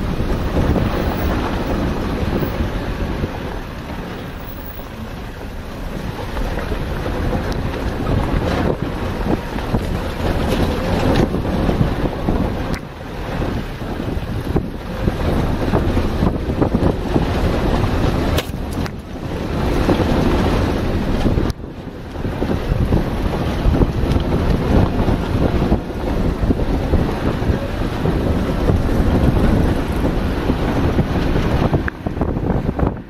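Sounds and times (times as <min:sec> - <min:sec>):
vehicle rumble on dirt track: 0:00.0 - 0:33.0
wind buffeting microphone: 0:00.0 - 0:33.0.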